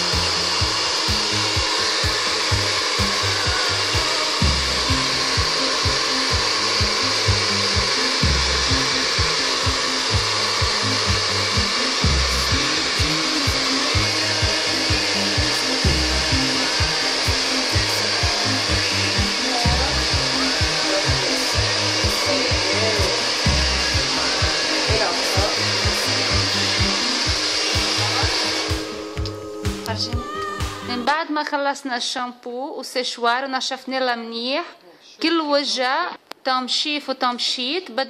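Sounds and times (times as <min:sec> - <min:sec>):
hair dryer running: 0:00.0 - 0:31.2.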